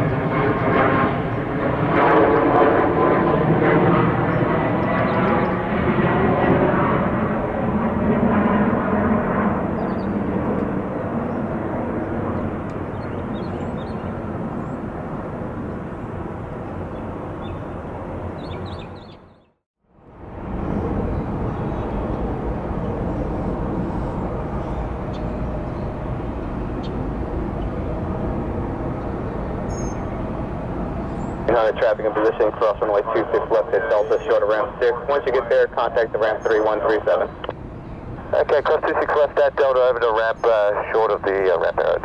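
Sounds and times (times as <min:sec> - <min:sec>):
jet airliner engine rumble: 0:00.0 - 0:19.4, 0:20.0 - 0:42.0.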